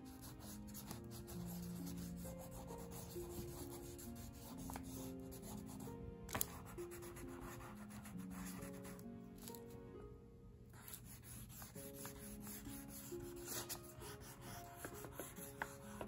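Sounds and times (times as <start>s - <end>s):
crayon scribbling on paper: 0.0s - 9.0s, 10.8s - 16.0s
soft background music: 0.0s - 16.0s.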